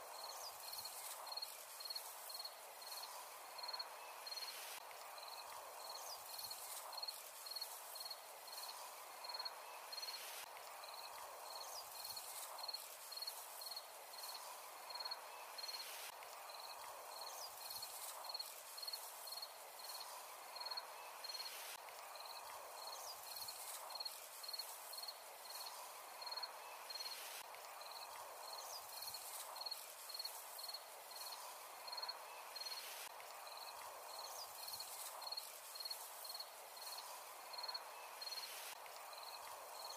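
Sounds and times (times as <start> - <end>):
faint outdoor hiss: 0.0 - 39.9
cricket chirping: 0.2 - 4.6, 5.2 - 21.6, 22.2 - 39.9.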